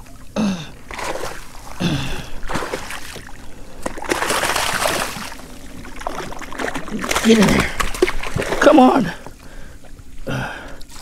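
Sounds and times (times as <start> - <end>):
fish thrashing and splashing: 0.8 - 9.7.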